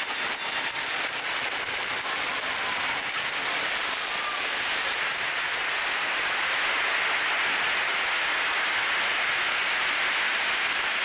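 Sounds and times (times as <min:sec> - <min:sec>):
glass marbles rolling clatter: 0:00.0 - 0:11.0.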